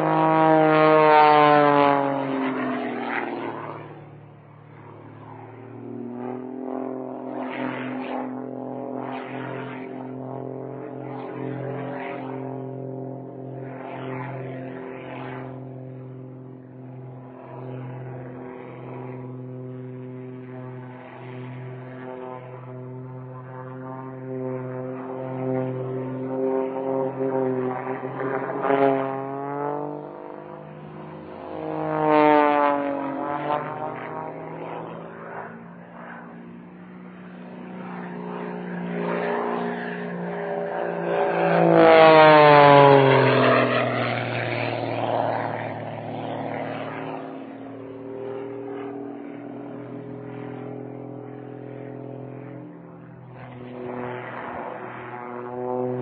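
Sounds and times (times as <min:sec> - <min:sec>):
propeller plane engine: 0:00.0 - 0:56.0.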